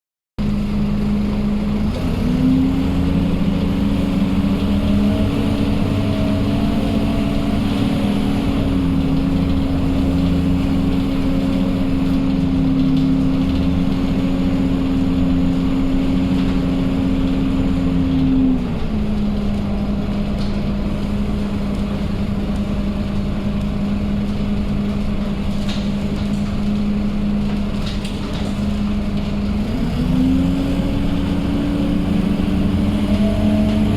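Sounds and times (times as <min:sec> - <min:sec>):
bus diesel engine: 0:00.4 - 0:33.9.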